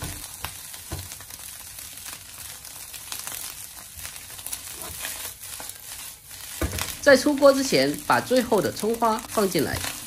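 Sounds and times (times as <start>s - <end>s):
rice sizzling in a wok: 0.0s - 10.0s.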